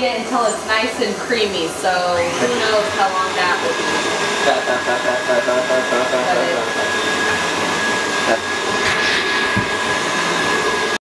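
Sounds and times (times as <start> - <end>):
stand mixer humming: 0.0 - 11.0.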